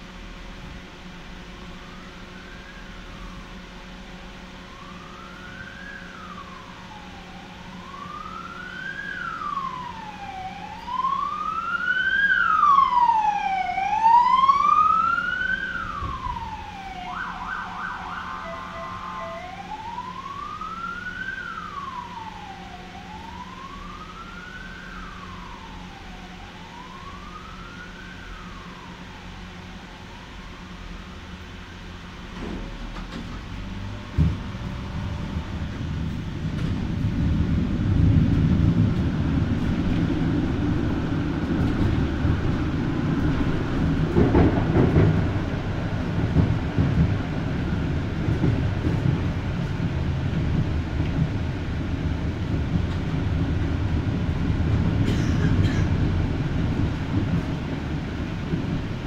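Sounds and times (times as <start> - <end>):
emergency vehicle siren wailing: 0.8 - 59.0.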